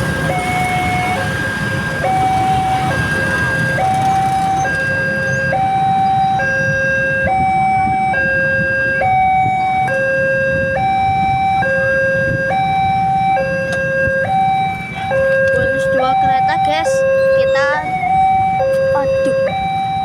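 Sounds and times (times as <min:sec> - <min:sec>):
level crossing alarm two tones: 0:00.0 - 0:20.0.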